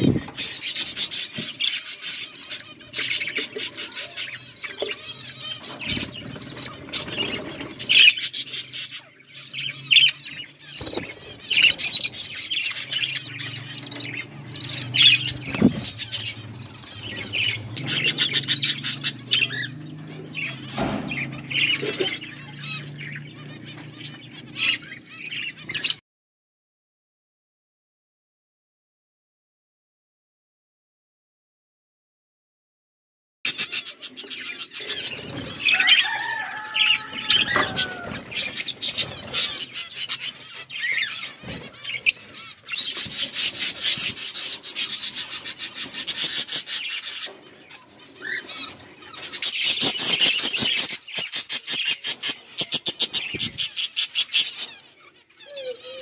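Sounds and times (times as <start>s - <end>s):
budgerigars chattering: 0.0s - 26.0s, 33.5s - 56.0s.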